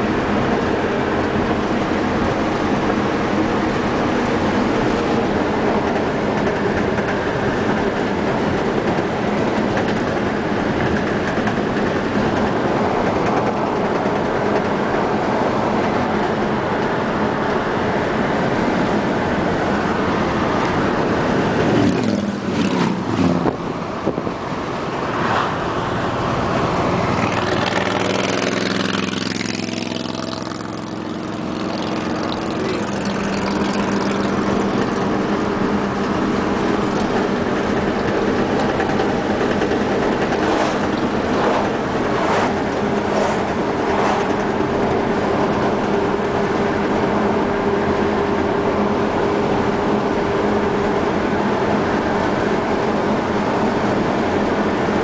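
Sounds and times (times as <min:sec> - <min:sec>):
road tyre and engine noise: 0:00.0 - 0:55.0.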